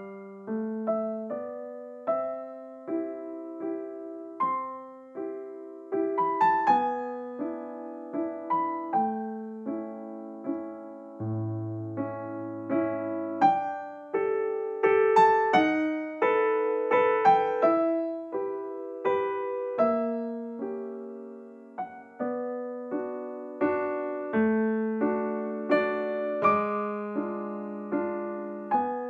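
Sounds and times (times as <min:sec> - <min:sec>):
soft piano melody: 0:00.0 - 0:29.0.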